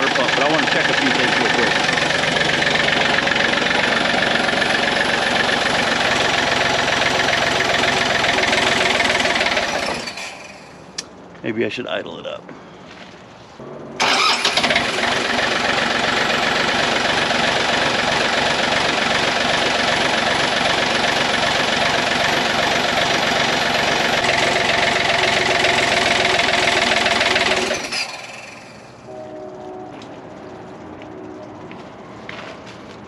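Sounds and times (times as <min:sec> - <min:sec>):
excavator diesel engine running: 0:00.0 - 0:11.0, 0:13.6 - 0:33.0.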